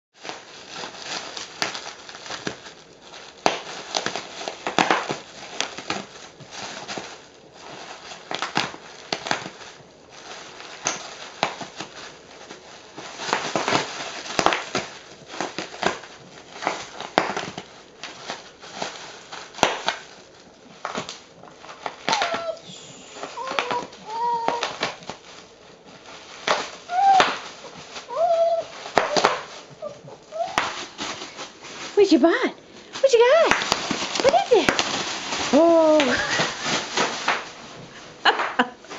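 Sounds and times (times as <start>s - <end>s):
bubble wrap crinkling: 0.1s - 38.9s.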